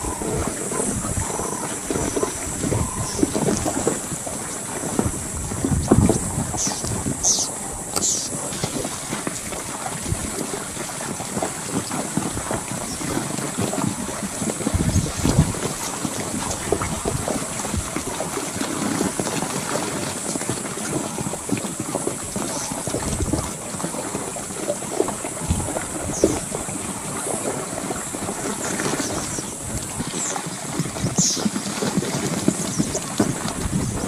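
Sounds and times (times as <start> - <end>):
steady outdoor hiss: 0.0 - 34.0
wind buffeting microphone: 0.0 - 34.0.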